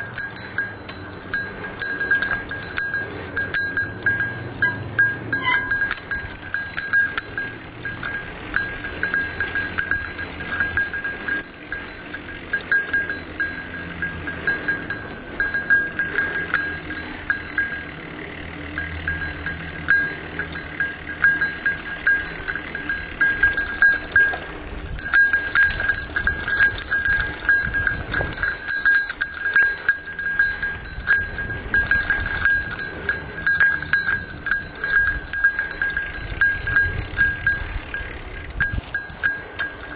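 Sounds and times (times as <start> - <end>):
bike rumbling on rough trail: 0.0 - 39.9
small bell jingling: 0.0 - 39.9.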